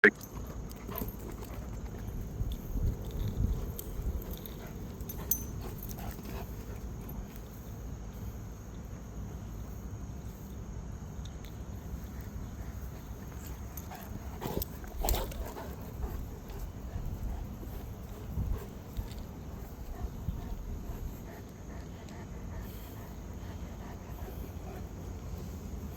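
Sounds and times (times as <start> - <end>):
steady low rumble: 2.1 - 25.9.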